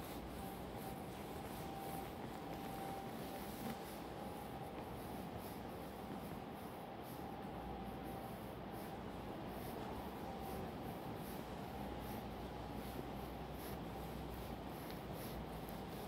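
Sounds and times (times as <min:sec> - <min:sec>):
faint steady tone: 0:00.0 - 0:16.0.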